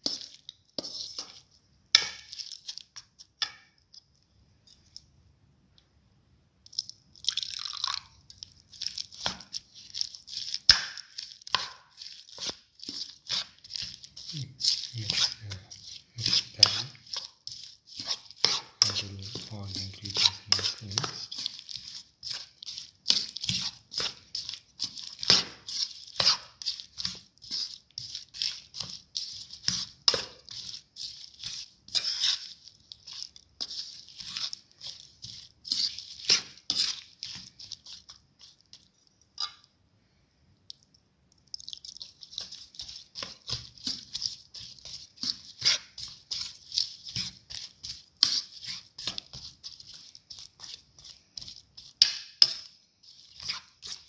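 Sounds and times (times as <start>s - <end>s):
spoon stirring thick batter: 0.0s - 5.9s, 6.6s - 54.0s.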